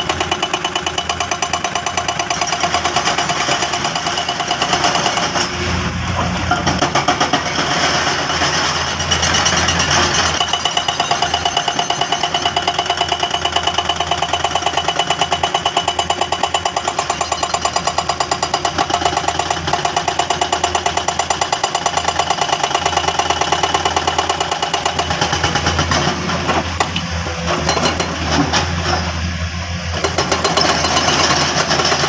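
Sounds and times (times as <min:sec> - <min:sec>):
hydraulic breaker hammering rock: 0:00.0 - 0:05.7, 0:06.4 - 0:28.7, 0:29.9 - 0:32.0.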